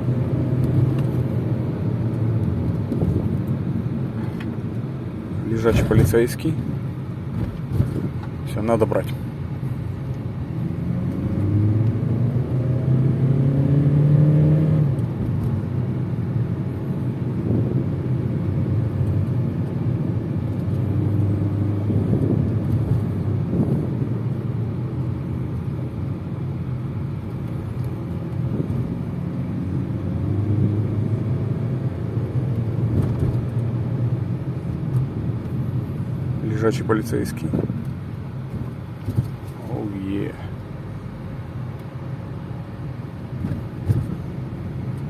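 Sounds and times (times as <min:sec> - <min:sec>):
car engine hum: 0:00.0 - 0:45.0
road and tyre noise: 0:00.0 - 0:45.0.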